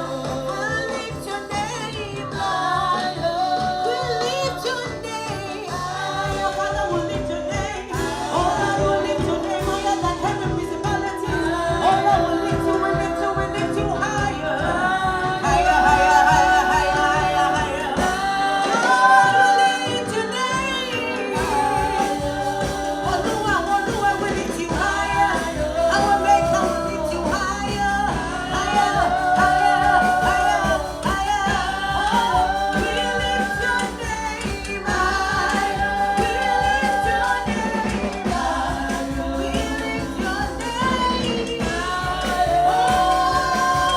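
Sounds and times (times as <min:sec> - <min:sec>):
band with beat and bass line: 0:00.0 - 0:43.9
gospel singing: 0:00.0 - 0:43.9.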